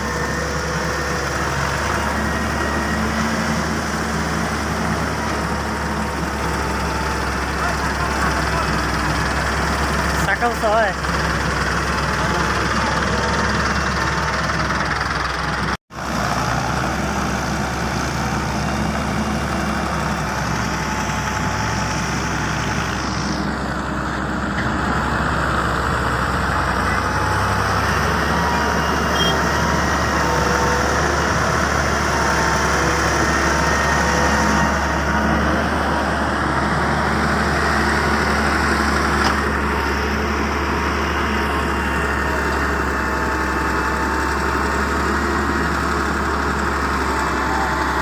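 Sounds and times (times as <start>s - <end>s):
heavy diesel engines running: 0.0s - 48.0s.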